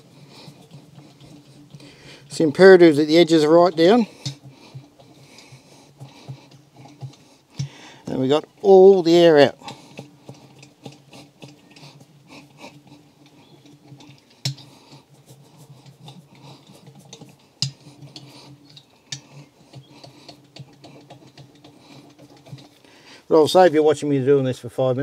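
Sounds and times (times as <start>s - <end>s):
roller clicking and scraping: 0.0s - 25.0s.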